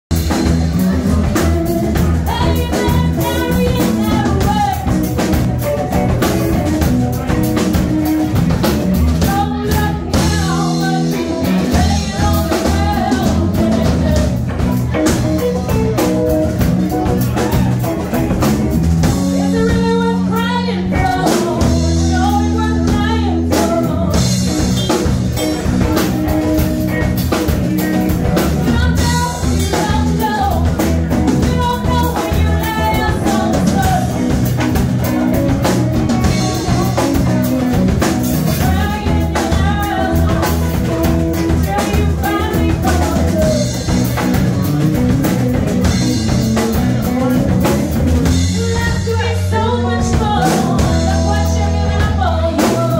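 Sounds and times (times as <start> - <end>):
electric bass: 0.0 - 52.9
drum kit: 0.1 - 52.9
electric guitar: 0.1 - 52.9
woman singing: 1.1 - 7.2, 9.0 - 16.1, 19.0 - 25.0, 27.8 - 45.1, 46.0 - 52.9.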